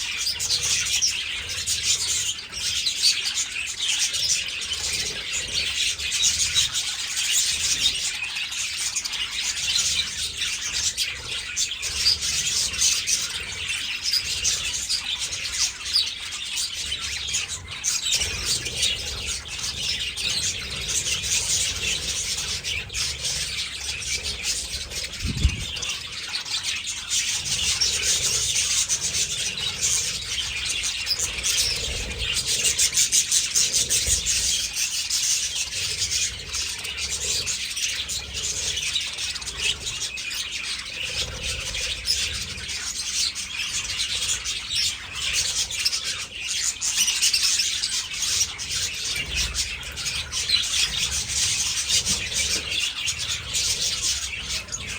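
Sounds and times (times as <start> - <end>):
budgerigars chattering: 0.0 - 54.9.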